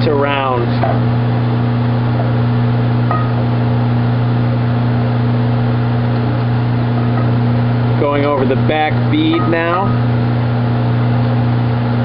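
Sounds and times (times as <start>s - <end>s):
machine electric hum: 0.0s - 12.0s.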